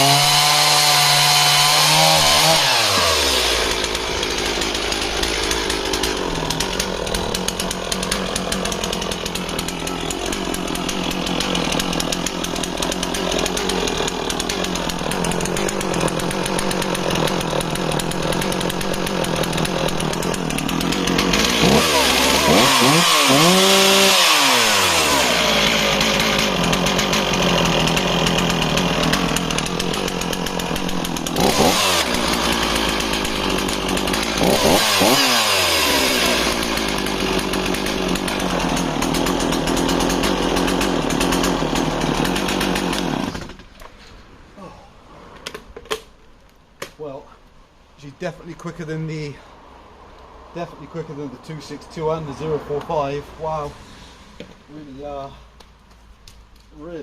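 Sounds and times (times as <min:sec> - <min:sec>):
chainsaw cutting wood: 0:00.0 - 0:44.1, 0:50.6 - 0:53.7.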